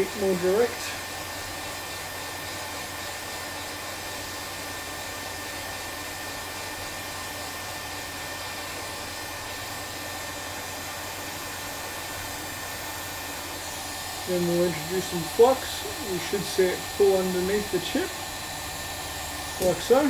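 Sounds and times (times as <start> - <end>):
hot air blower rushing: 0.0 - 20.0.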